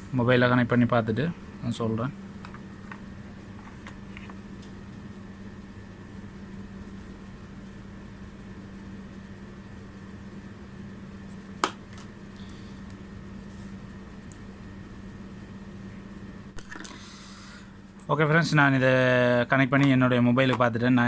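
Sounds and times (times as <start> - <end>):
constant low hum: 0.0 - 21.0.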